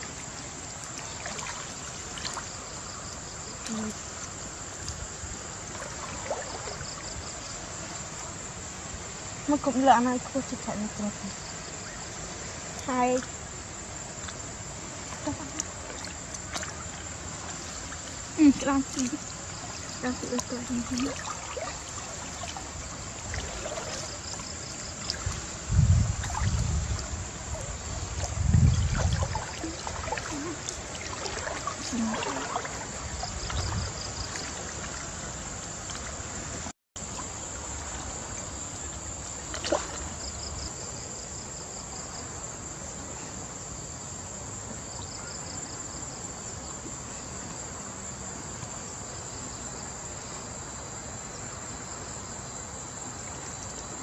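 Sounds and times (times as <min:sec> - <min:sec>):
insect chorus: 0:00.0 - 0:54.0
water sloshing and trickling: 0:00.0 - 0:54.0.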